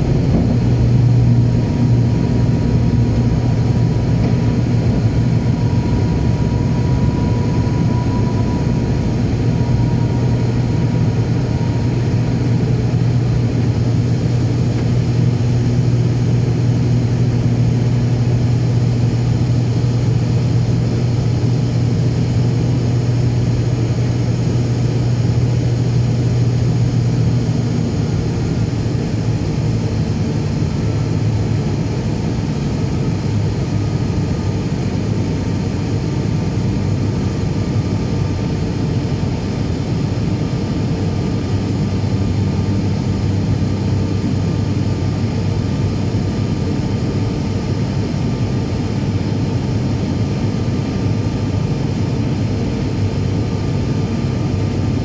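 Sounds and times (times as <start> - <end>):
turboprop engine drone in cabin: 0.0 - 55.0.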